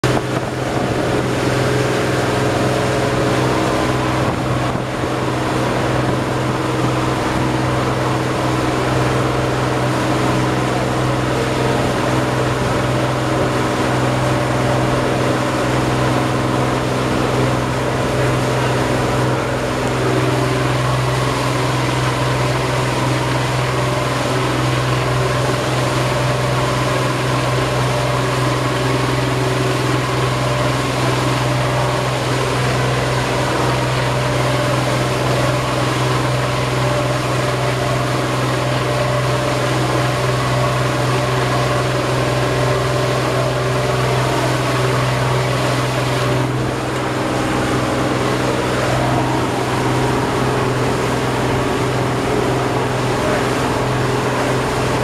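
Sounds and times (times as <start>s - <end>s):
boat engine droning: 0.0s - 55.0s
water rushing along hull: 0.0s - 55.0s.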